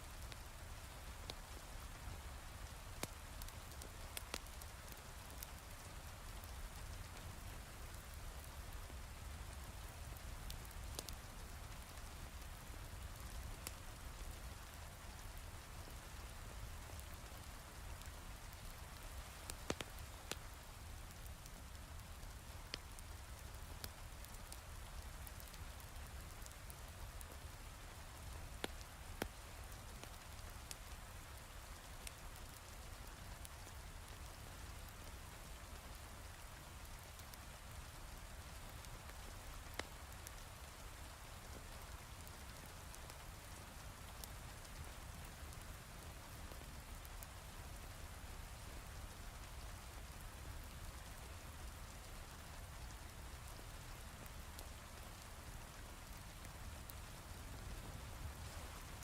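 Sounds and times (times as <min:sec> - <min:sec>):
wood fire crackling: 0:00.1 - 0:59.0.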